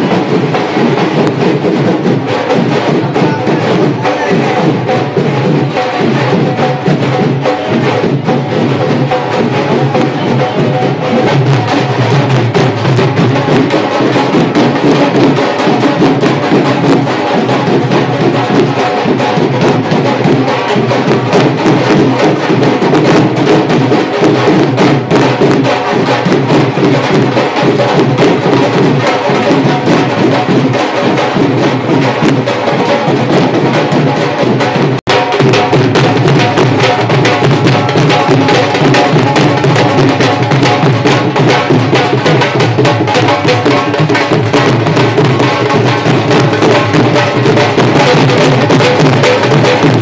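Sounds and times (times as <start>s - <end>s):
barrel drums beaten with sticks: 0.0s - 50.0s.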